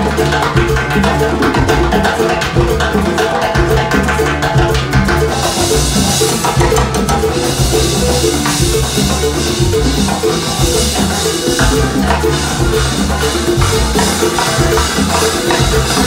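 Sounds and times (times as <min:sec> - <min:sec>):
congas and timbales: 0:00.0 - 0:16.0
salsa band playing: 0:00.0 - 0:16.0.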